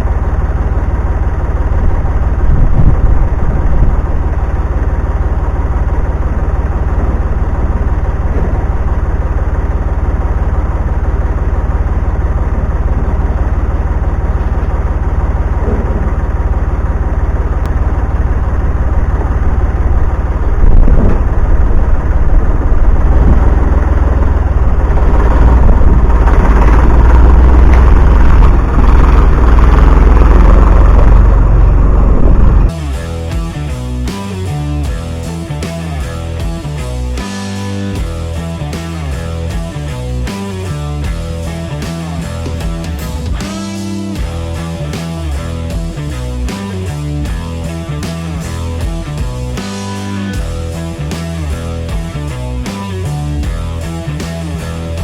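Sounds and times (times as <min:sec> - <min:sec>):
engine rumbling: 0:00.0 - 0:55.0.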